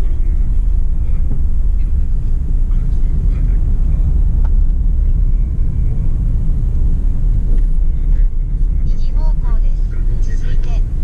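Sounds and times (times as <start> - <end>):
car driving heard from inside: 0.0 - 11.0
road and tyre noise: 0.0 - 11.0.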